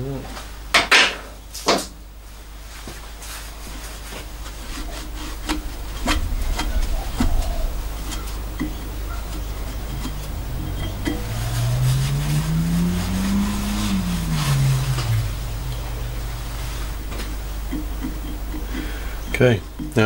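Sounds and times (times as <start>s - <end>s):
low steady hum: 2.2s - 20.0s.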